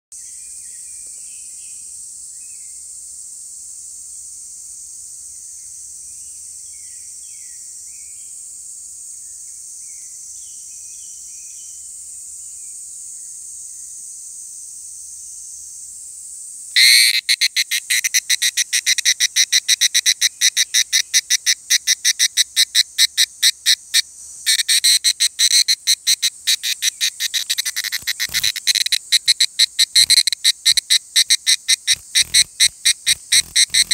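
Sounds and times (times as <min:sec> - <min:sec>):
cicada rapidly pulsing call: 0:00.2 - 0:33.9
distant insect chorus drone: 0:00.2 - 0:33.9
faint insect chirps: 0:00.2 - 0:33.9.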